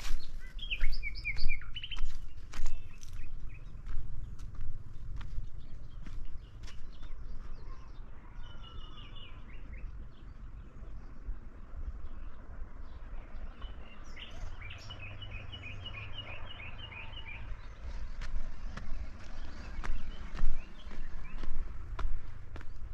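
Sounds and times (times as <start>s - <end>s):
steady low rumble: 0.0s - 7.6s, 9.6s - 22.9s
songbirds singing: 0.0s - 22.9s.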